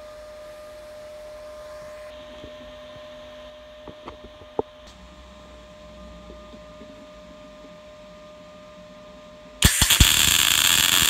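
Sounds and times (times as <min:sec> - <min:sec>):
workshop background hum: 0:00.0 - 0:11.0.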